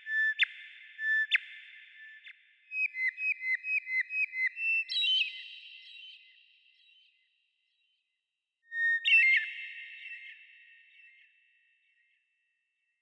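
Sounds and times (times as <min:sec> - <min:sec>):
songbird whistled song: 0:00.0 - 0:07.9, 0:08.7 - 0:12.1.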